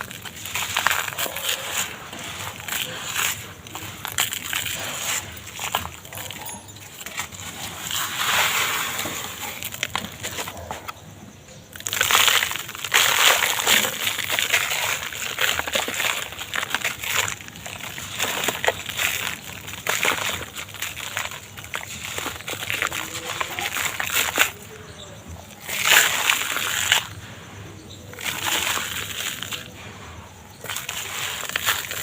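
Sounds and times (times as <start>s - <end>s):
dry block crumbling by hand: 0.0s - 11.1s, 11.7s - 27.2s, 28.0s - 29.8s, 30.5s - 32.0s.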